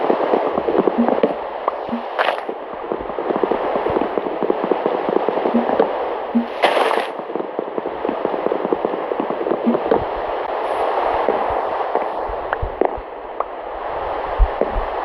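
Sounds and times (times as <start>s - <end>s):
heavy rain falling: 0.0s - 13.4s.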